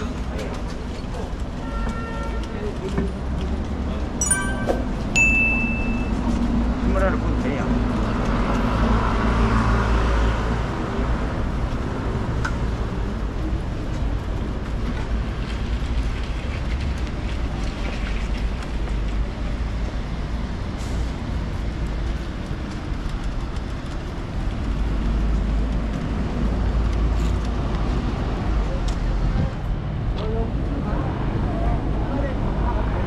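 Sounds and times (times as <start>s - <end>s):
road traffic rumble: 4.8s - 33.0s.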